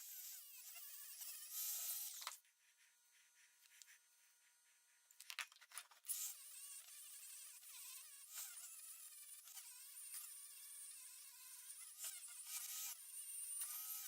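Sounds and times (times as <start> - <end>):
high-speed motorized tool buzzing: 0.0 - 4.9, 5.5 - 14.0.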